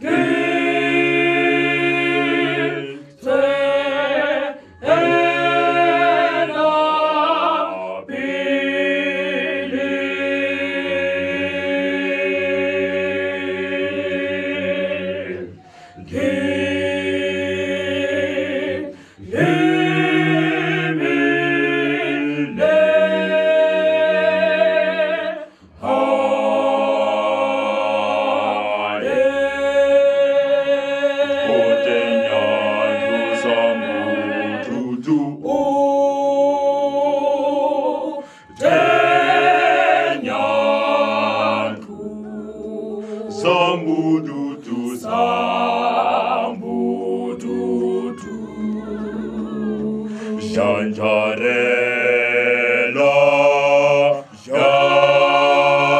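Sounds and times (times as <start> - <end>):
vocal group singing in harmony: 0.0 - 55.9.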